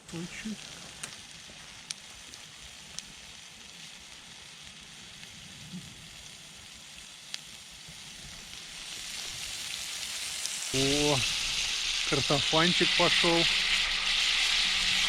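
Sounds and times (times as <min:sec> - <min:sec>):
fat sizzling in a frying pan: 0:00.0 - 0:15.0.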